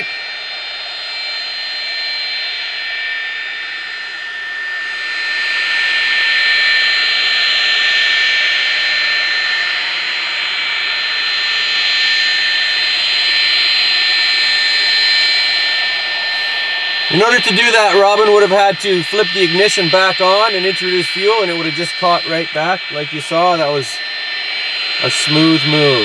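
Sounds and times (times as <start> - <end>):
jet engine whine and rush: 0.0 - 26.0.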